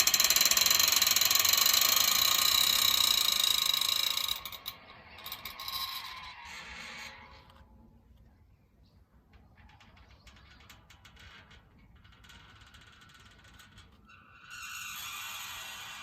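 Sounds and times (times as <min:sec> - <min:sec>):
metal gate hinges creaking: 0:00.0 - 0:07.8, 0:09.3 - 0:16.0.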